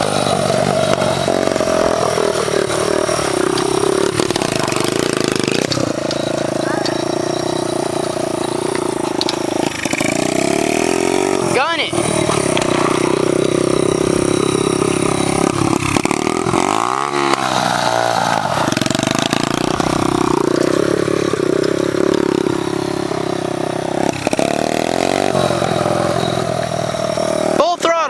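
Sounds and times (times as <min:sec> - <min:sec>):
small motorbike engine revving: 0:00.0 - 0:28.0.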